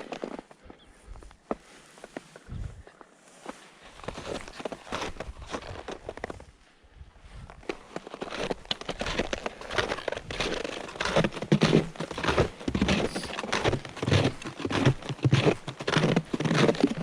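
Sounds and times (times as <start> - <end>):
footsteps crunching on trail: 0.0 - 6.6, 7.5 - 17.0.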